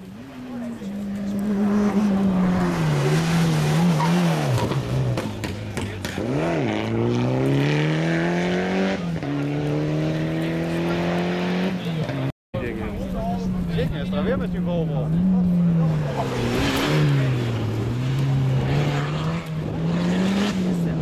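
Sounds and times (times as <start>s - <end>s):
rally car engine revving: 0.1s - 12.3s, 13.4s - 21.0s.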